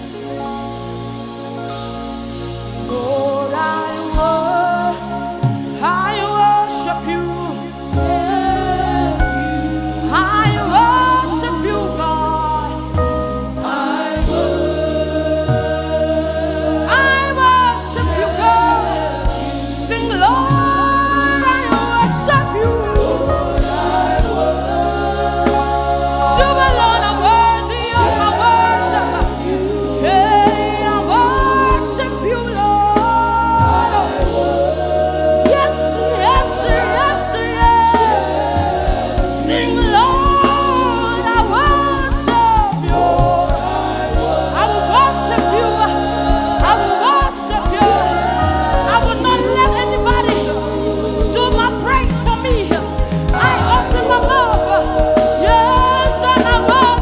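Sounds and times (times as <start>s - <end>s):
gospel choir with band: 0.0s - 57.0s
sustained bass notes: 0.0s - 57.0s.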